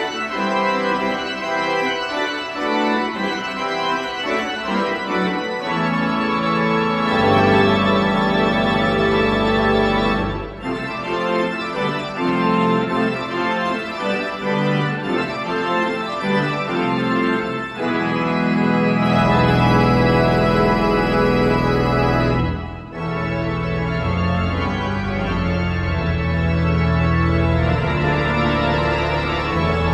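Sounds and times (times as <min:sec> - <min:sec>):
pipe organ playing chords: 0:00.0 - 0:29.9.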